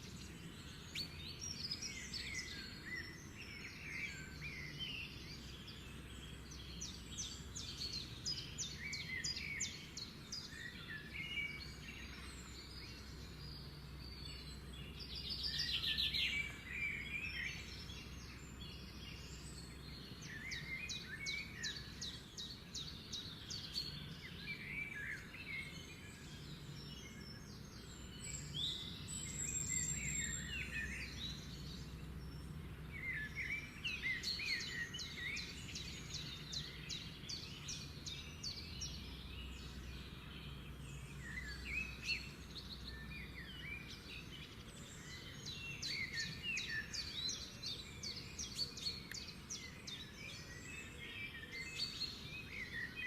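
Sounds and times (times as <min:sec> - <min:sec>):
birds chirping and singing: 0:00.0 - 0:53.0.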